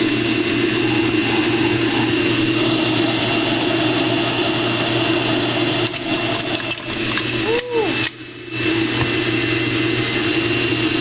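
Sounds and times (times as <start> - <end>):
electric juicer motor humming: 0.0 - 11.0.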